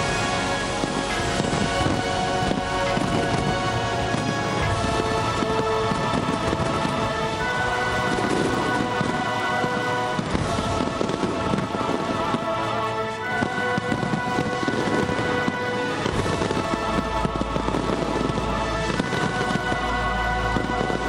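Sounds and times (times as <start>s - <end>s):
fireworks crackling and popping: 0.0s - 21.0s
music of long held notes: 0.0s - 21.0s.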